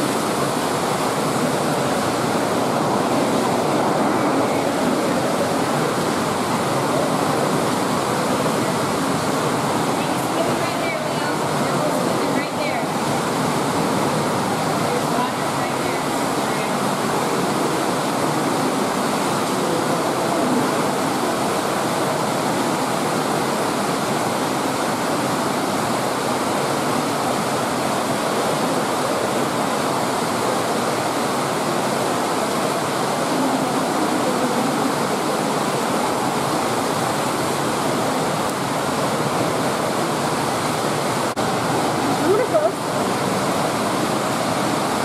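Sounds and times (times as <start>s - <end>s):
running water rushing: 0.0s - 45.0s.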